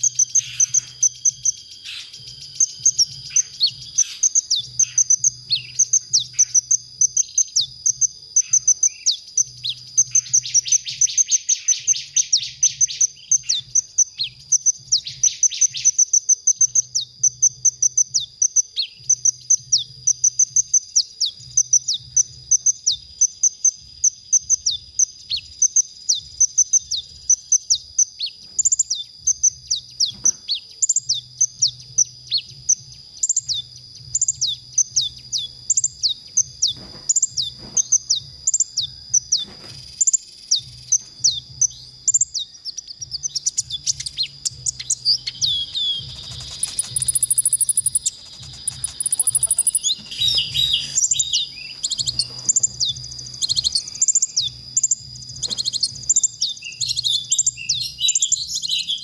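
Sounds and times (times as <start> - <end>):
buzzy bird trills: 0.0 - 59.0
sunbird singing high chirps: 0.0 - 59.0.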